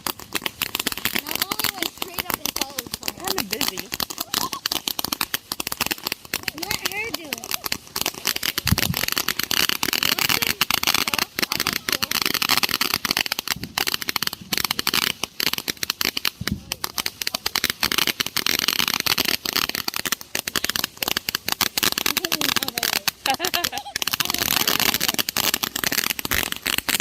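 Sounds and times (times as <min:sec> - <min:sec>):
firework crackling: 0:00.0 - 0:27.0.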